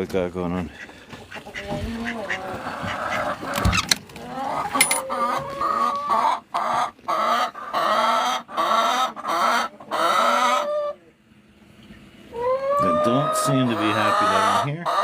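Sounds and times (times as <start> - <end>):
chickens squawking: 0.6 - 15.0.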